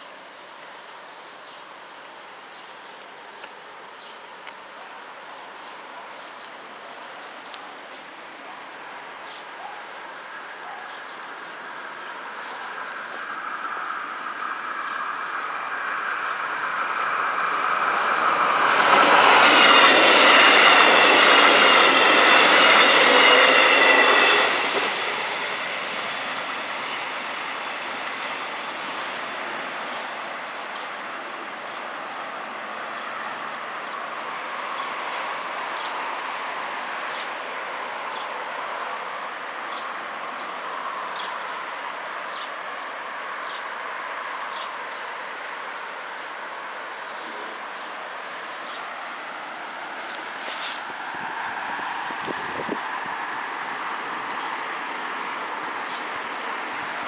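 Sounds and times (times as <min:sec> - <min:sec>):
train wheels rushing on rail: 0:01.9 - 0:57.0.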